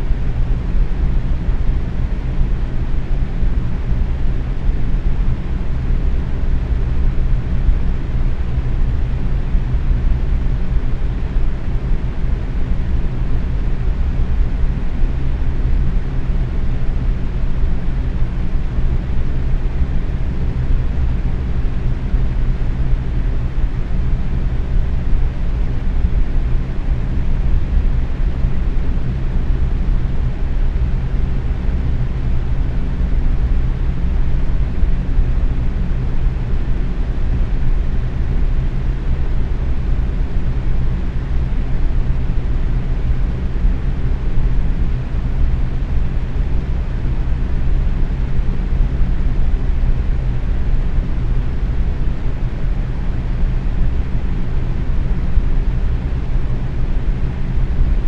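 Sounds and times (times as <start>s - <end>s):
box fan running: 0.0s - 58.0s
faint low hum: 0.0s - 58.0s.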